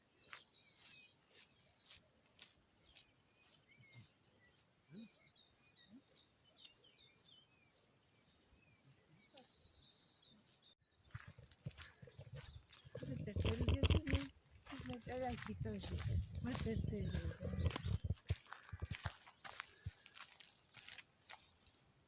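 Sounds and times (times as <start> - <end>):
small bird chirping: 0.0 - 20.5.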